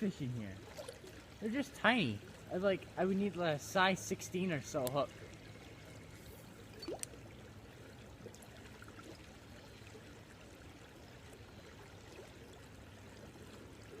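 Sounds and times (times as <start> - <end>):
faint creek flowing: 0.0 - 14.0.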